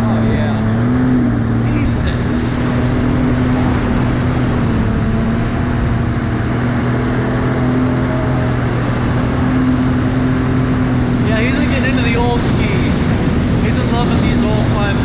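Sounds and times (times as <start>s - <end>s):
jet ski engine humming: 0.0s - 15.0s
rushing water: 0.0s - 15.0s
wind noise: 0.0s - 15.0s.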